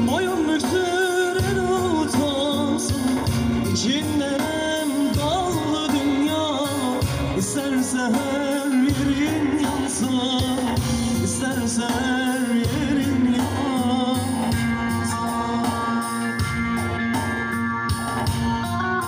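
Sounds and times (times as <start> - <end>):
folk band music: 0.0 - 19.0.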